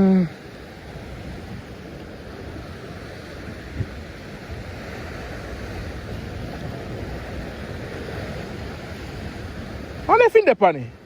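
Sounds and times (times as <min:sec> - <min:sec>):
wind on microphone: 0:00.0 - 0:10.3
ocean surf washing: 0:00.0 - 0:11.0.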